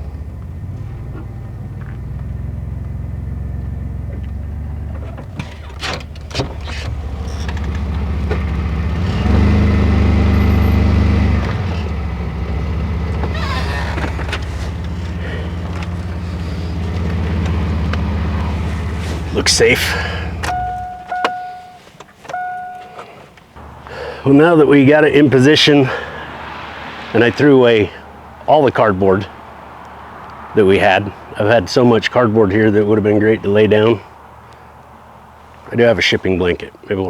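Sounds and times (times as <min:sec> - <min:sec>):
engine revving: 0:00.0 - 0:21.7, 0:23.6 - 0:34.0
car engine running with exhaust leak: 0:00.0 - 0:37.0.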